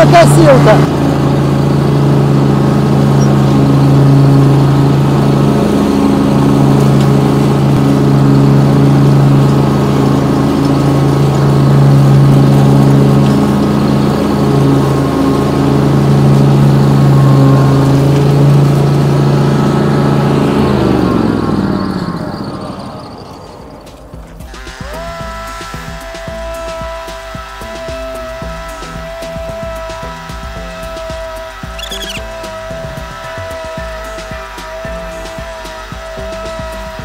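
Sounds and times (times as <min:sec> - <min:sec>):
riding mower engine running: 0:00.0 - 0:37.0.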